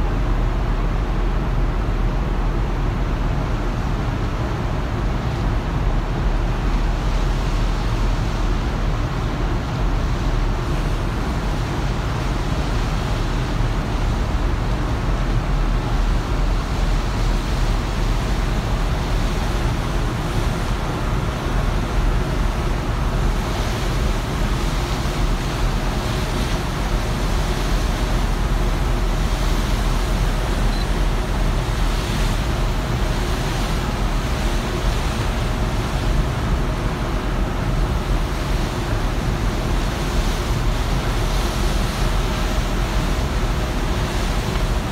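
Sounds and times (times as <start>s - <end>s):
wind: 0.0s - 44.9s
breaking water surges: 0.1s - 44.9s
churned seawater rushing: 6.4s - 44.9s.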